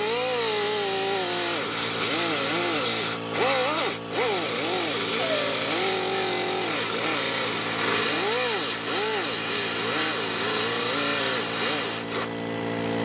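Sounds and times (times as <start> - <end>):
air saw cutting metal: 0.0 - 13.0.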